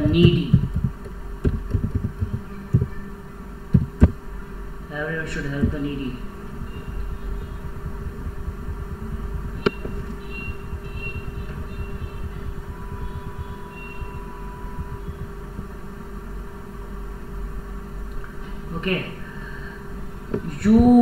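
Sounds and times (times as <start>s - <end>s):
low background rumble and hum: 0.0s - 21.0s.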